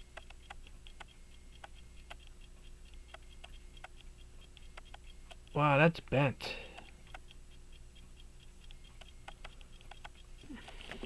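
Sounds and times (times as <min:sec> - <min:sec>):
pocket watch ticking: 0:00.0 - 0:05.6, 0:06.6 - 0:11.0.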